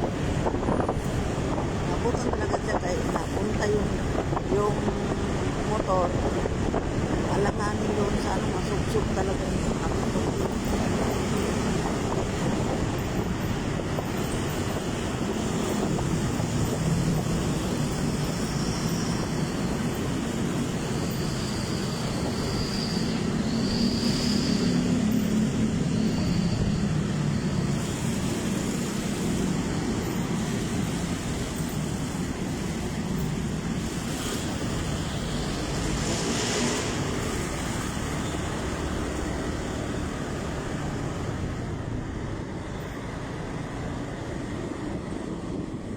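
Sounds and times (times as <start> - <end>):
motorcycle engine and road rumble: 0.0 - 45.9.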